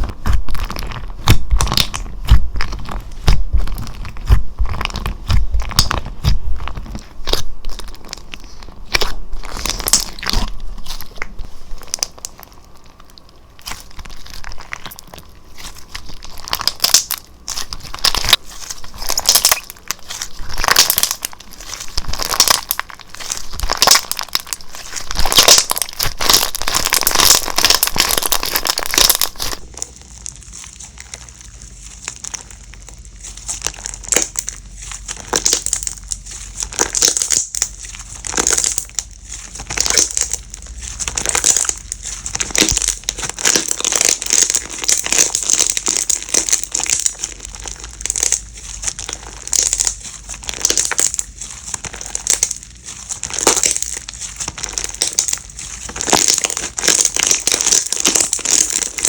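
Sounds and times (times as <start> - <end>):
slime squished by hand: 0.0 - 59.0.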